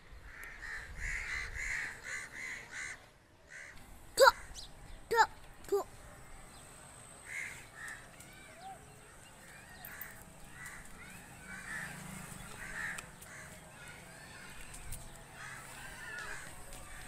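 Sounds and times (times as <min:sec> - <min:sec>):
birds calling: 0:00.1 - 0:17.0.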